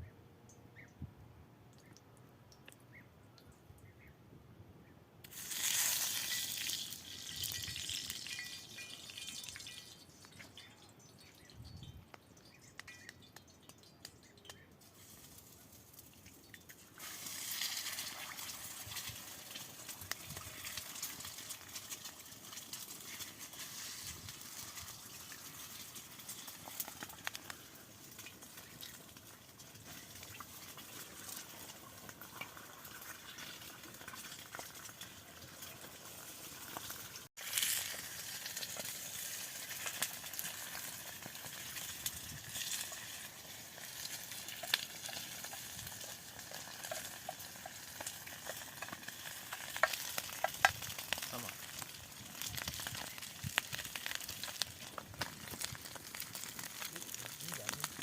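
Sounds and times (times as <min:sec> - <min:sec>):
egg sizzling with crackles: 0:05.2 - 0:58.0.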